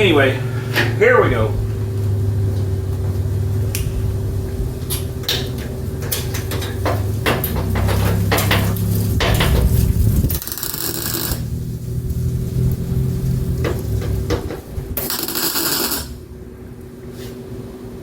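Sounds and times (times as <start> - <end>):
welder crackling: 0.0 - 17.0
low electrical hum: 0.0 - 18.0.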